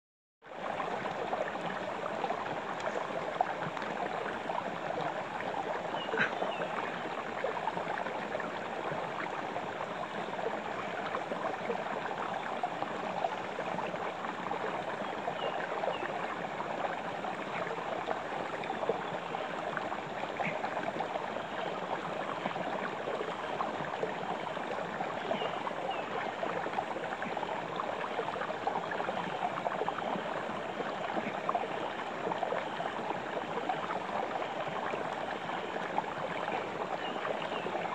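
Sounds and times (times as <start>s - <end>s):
stream water rushing: 0.5s - 37.9s.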